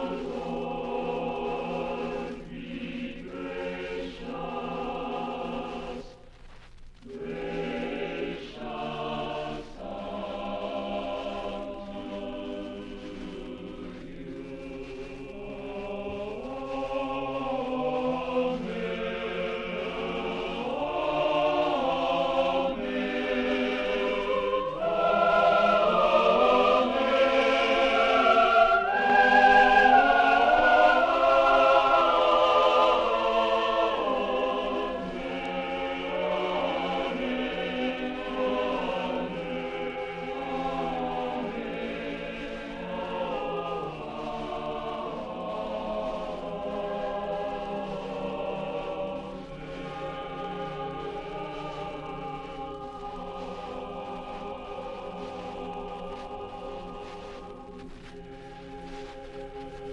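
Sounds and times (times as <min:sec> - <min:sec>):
choir singing held chords: 0:00.0 - 0:59.9.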